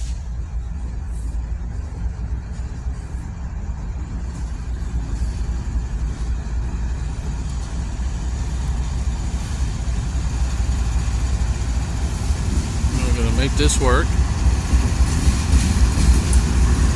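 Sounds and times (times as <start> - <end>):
moving vehicle rumble: 0.0 - 16.9.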